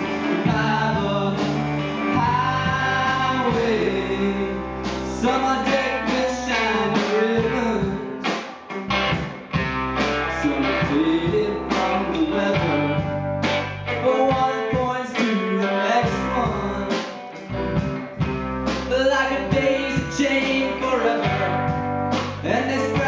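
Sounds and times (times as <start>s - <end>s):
man singing: 0.0s - 8.4s, 10.1s - 17.4s, 18.8s - 23.0s
drum kit: 0.0s - 23.0s
electric guitars: 0.0s - 23.0s.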